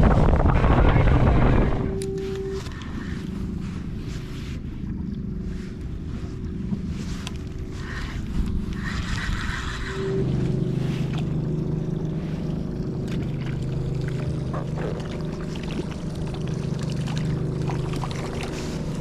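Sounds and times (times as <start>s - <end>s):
boat engine droning: 0.0s - 19.0s
wind and water noise: 0.0s - 19.0s.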